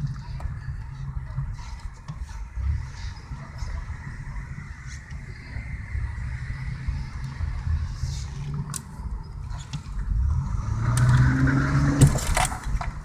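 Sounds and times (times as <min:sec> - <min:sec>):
car exhaust drone and revving: 0:00.0 - 0:13.0.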